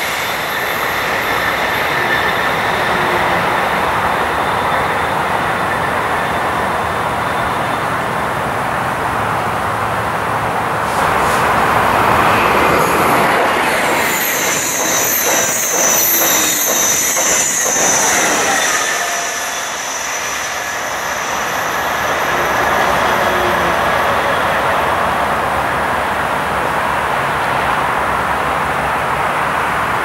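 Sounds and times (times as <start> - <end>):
train wheels squealing on rails: 0.0 - 9.5, 10.7 - 28.8
approaching train rumble: 0.0 - 30.0.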